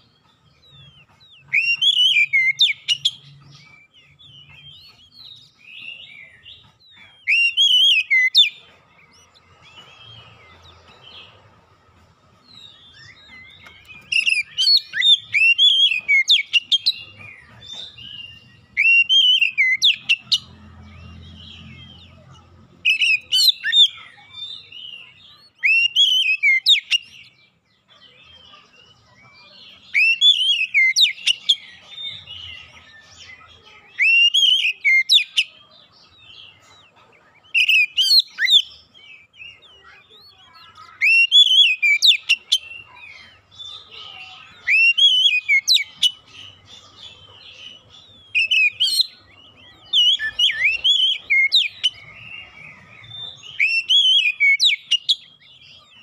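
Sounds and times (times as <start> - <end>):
bird whistling song: 0.0 - 11.2, 12.5 - 22.2, 22.8 - 27.5, 29.7 - 35.6, 37.4 - 56.0
bird chattering: 0.0 - 11.7, 12.4 - 56.0.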